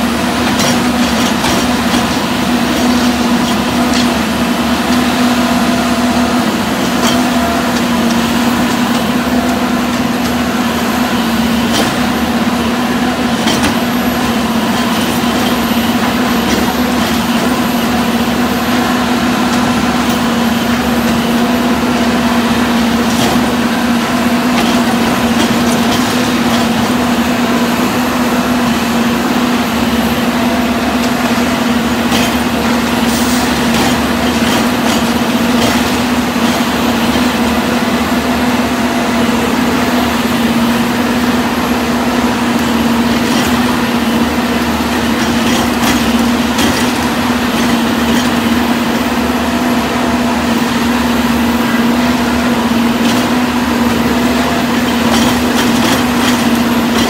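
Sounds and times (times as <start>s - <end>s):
machine engine and hydraulics humming: 0.0s - 57.0s.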